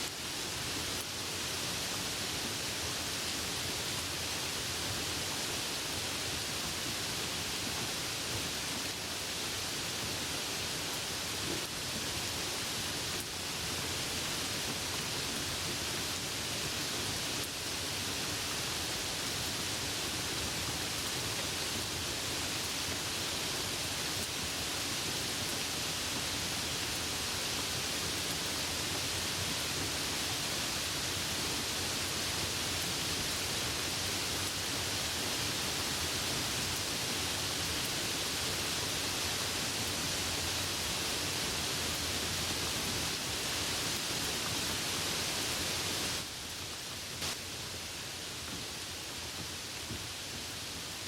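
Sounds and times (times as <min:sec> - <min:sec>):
heavy rain hiss: 0:00.0 - 0:51.0.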